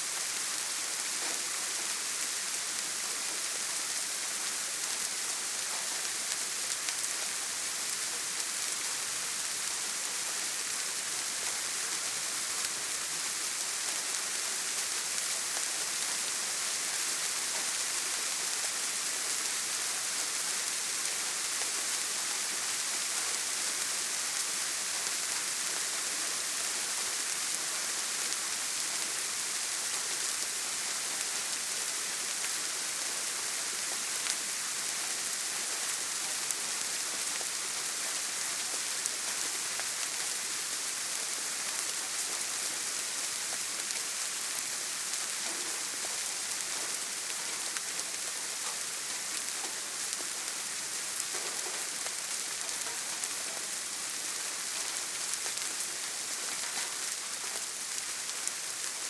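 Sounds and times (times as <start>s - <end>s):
rain drumming on a tin roof: 0.0s - 59.0s.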